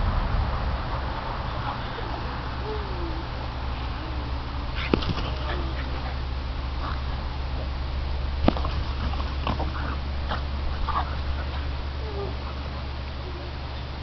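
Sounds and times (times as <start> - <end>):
steady low hum: 0.0 - 14.0
dogs growling and grunting: 1.1 - 14.0.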